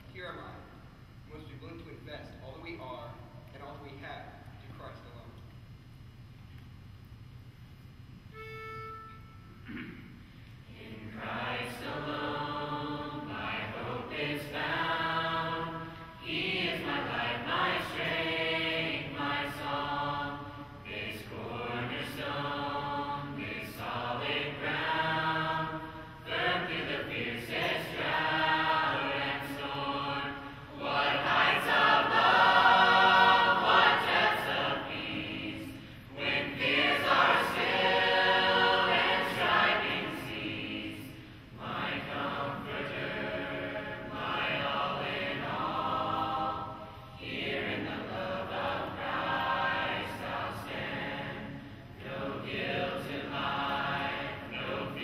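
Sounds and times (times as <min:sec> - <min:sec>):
choir singing a hymn: 0:10.6 - 0:55.0.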